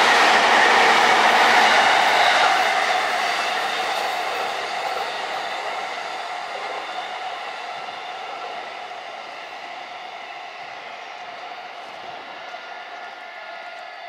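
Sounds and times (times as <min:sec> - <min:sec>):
train running past on rails: 0:00.0 - 0:14.0.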